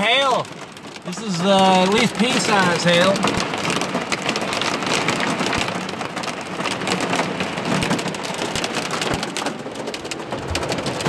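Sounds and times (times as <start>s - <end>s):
rain and hail drumming on car: 0.0s - 11.0s.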